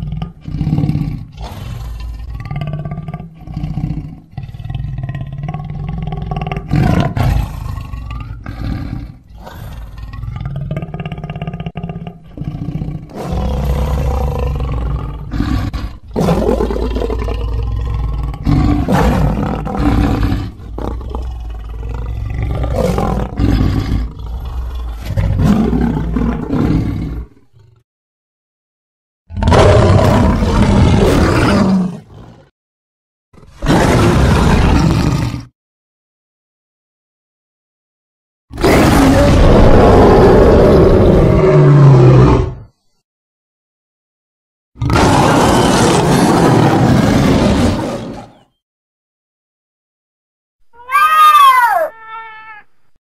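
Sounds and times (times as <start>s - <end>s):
lion-like roars and growls: 0.0s - 27.8s, 29.3s - 32.5s, 33.4s - 35.6s, 38.5s - 42.8s, 44.8s - 48.6s, 50.8s - 52.6s.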